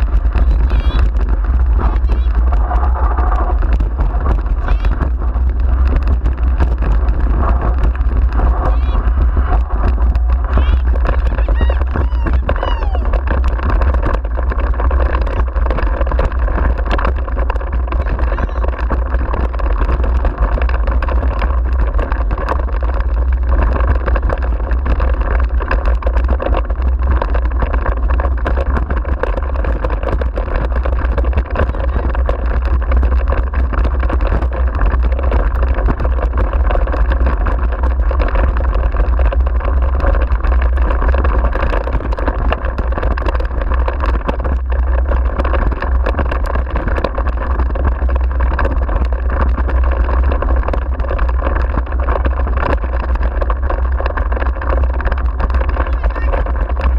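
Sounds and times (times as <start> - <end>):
small ticks and rattles: 0.0 - 56.9
wheels rolling on dirt track: 0.0 - 56.9
wind buffeting microphone: 0.0 - 56.9.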